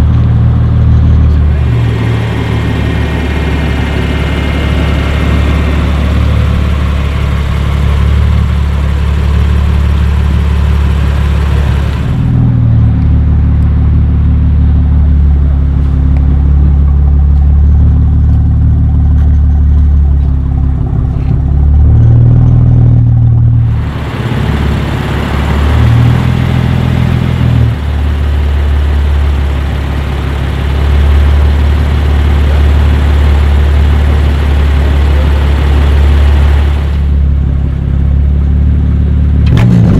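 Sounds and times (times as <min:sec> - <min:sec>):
car engine idling: 0:00.0 - 0:39.8.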